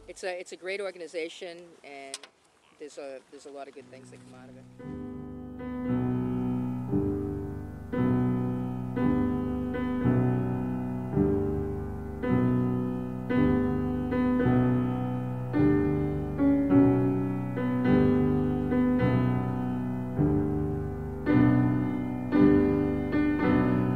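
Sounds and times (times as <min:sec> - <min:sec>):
slow gentle piano chords: 0:03.8 - 0:23.9.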